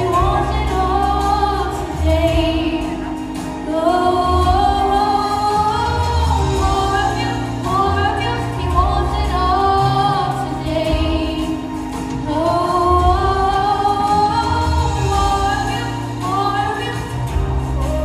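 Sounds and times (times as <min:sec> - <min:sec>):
backing track with low bass: 0:00.0 - 0:18.0
woman singing gospel: 0:00.0 - 0:18.0.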